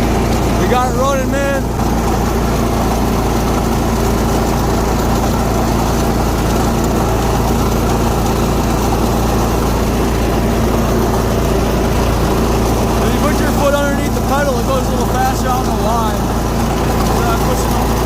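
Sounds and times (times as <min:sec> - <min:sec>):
riding lawn mower engine running: 0:00.0 - 0:18.0.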